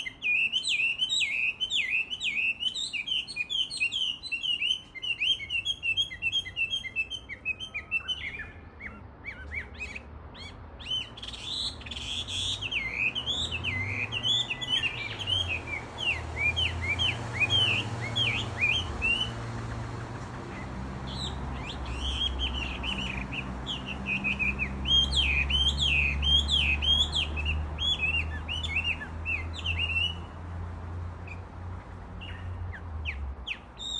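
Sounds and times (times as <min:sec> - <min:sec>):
bird singing whistled phrases: 0:00.0 - 0:19.5, 0:20.5 - 0:30.2, 0:33.1 - 0:33.9
bush warbler singing: 0:00.0 - 0:33.9.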